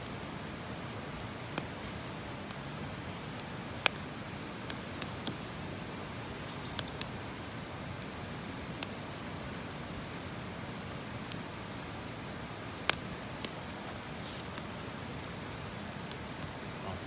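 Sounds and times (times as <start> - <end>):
campfire crackling: 0.0 - 17.0
fire popping: 0.0 - 17.0.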